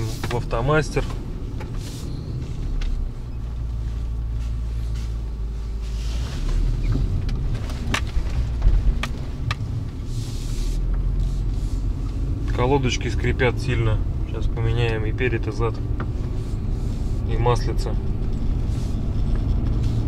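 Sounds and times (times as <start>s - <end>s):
car cabin low rumble: 0.0s - 20.0s.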